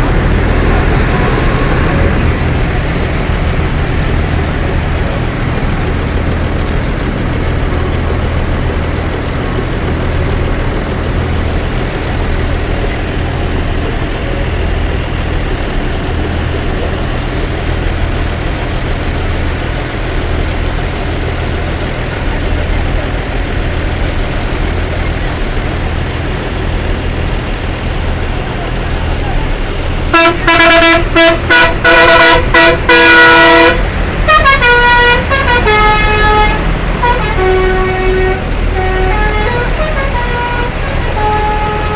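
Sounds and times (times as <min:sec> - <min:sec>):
bus engine idling: 0:00.0 - 0:41.9.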